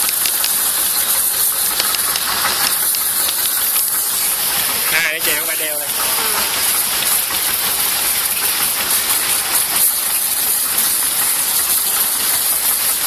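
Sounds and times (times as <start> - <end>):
loud steady hiss: 0.0 - 13.0.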